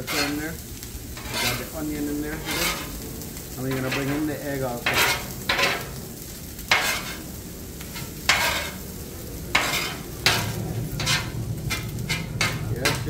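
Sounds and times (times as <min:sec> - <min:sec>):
food sizzling: 0:00.0 - 0:13.0
spatula scraping on griddle: 0:00.0 - 0:13.0.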